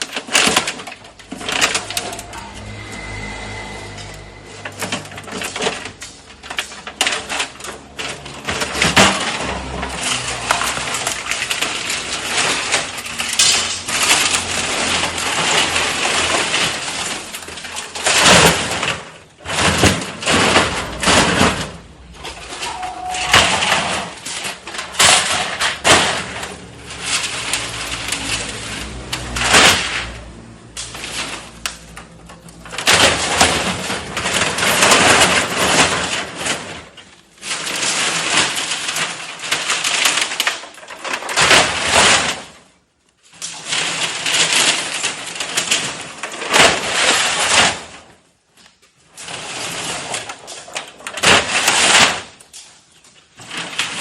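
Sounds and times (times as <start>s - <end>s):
metal cans clattering in baler: 0.0s - 54.0s.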